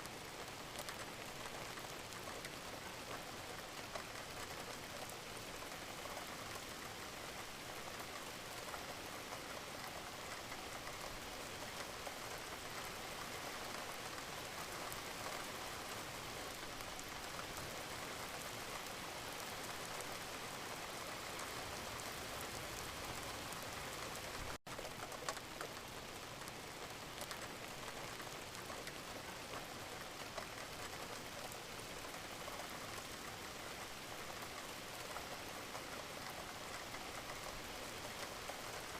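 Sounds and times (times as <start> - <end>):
gentle rain patter: 0.0 - 38.9.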